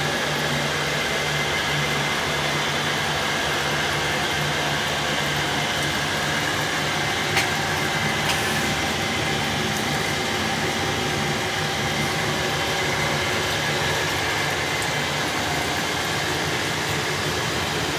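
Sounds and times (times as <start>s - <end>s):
mechanical hum and hiss: 0.0s - 17.9s.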